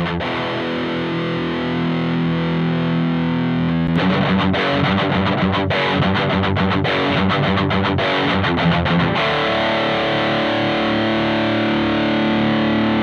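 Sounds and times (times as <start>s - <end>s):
distorted electric guitar riff: 0.0s - 13.0s.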